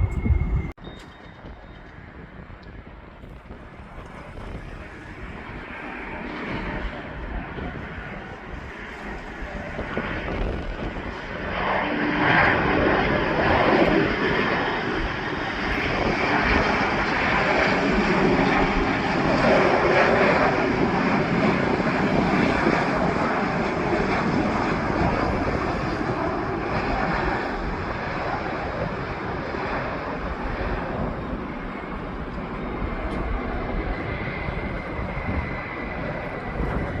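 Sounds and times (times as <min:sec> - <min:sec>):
airplane engine noise: 0:00.0 - 0:37.0.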